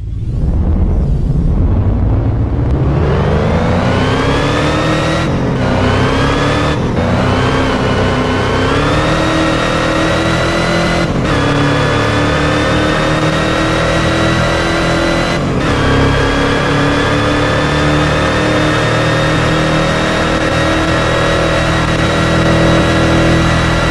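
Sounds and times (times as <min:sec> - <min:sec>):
car engine accelerating hard: 0:00.0 - 0:23.9.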